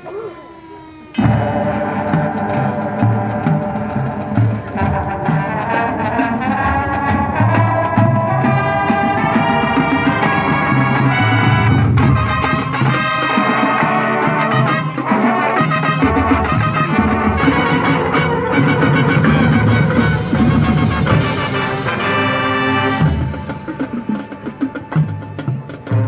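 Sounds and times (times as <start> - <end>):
drums and percussion: 0.0 - 26.0
marching band playing: 1.2 - 26.0.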